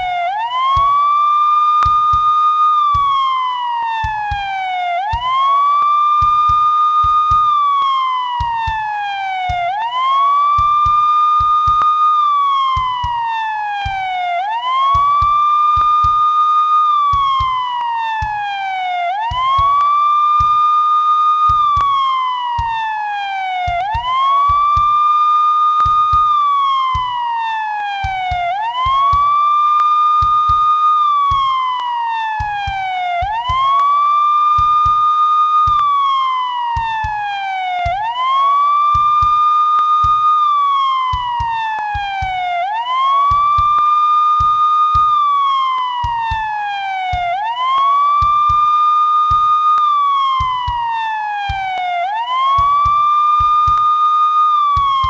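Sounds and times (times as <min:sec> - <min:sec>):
police siren wailing: 0:00.0 - 0:55.0.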